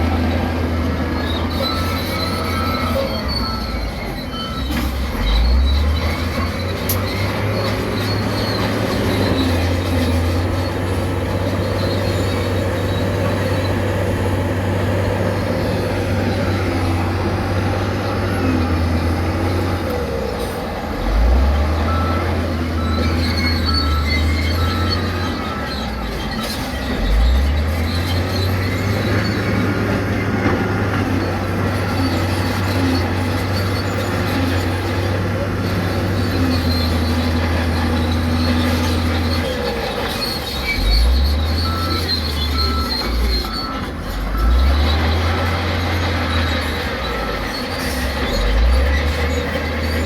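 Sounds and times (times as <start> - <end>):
diesel engine droning: 0.0 - 50.0
high metallic squeals: 1.0 - 19.8, 21.7 - 50.0.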